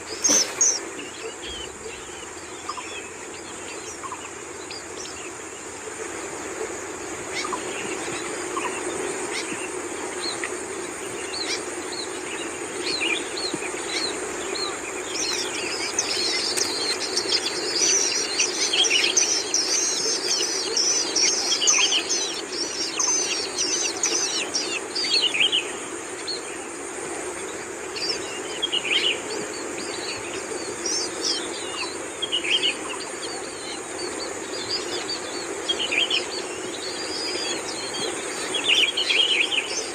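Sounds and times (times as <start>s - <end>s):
birds chirping and chattering: 0.0s - 6.4s, 7.2s - 39.9s.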